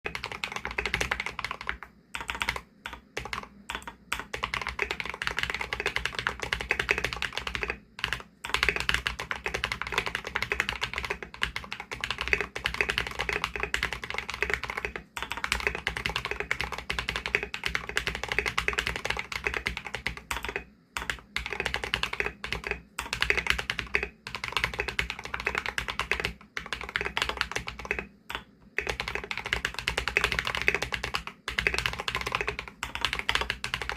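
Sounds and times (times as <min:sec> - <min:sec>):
mechanical keyboard typing: 0:00.1 - 0:33.9.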